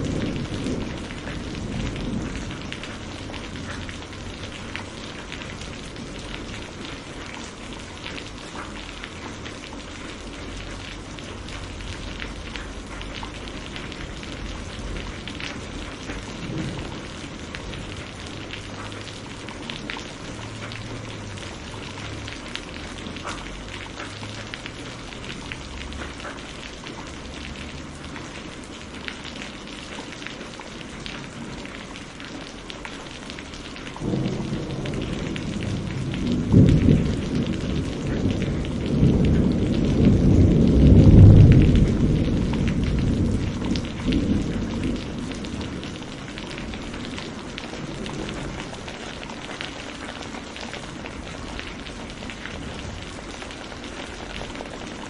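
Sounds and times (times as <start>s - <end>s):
thunder rumble: 0.0s - 28.6s, 33.9s - 55.0s
heavy rain: 0.0s - 55.0s
raindrops pattering on a surface: 0.0s - 55.0s.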